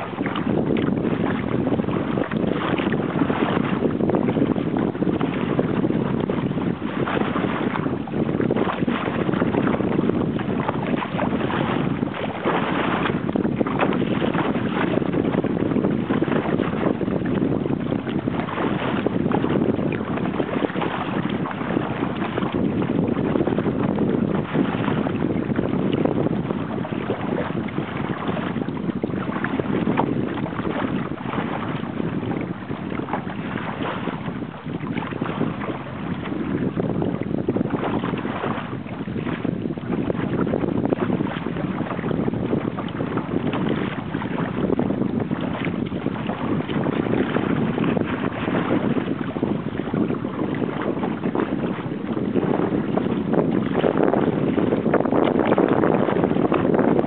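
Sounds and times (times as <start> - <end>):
water sloshing around kayak: 0.0 - 57.0
wind buffeting microphone: 0.0 - 57.0.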